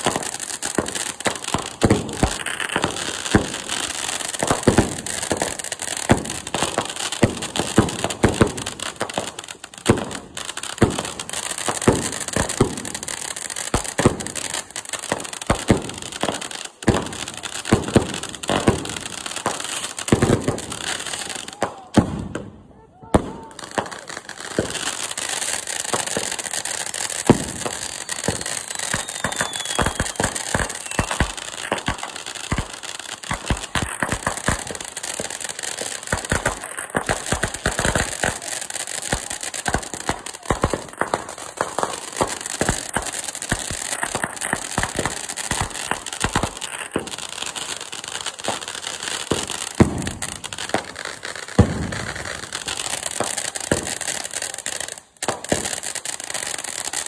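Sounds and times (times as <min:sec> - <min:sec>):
firework fountain hissing: 0:00.0 - 0:57.0.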